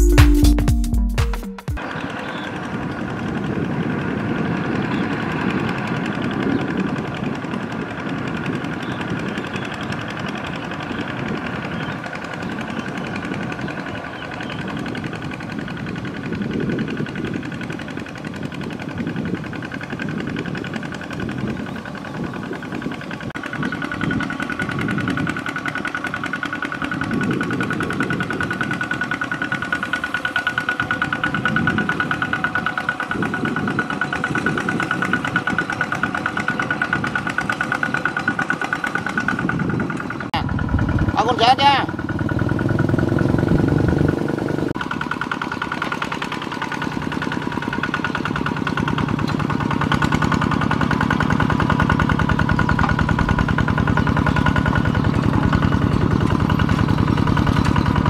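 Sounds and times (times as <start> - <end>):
diesel tractor engine running: 1.7 - 58.0.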